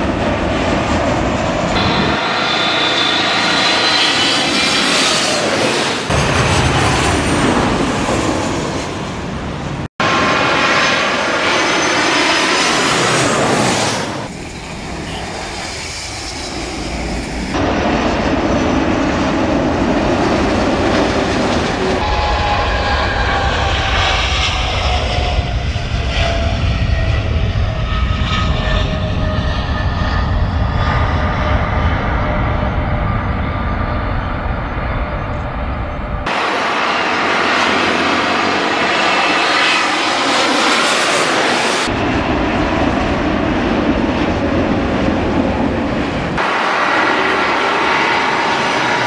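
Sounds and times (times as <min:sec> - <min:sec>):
jet airliner engines: 0:00.0 - 0:49.0.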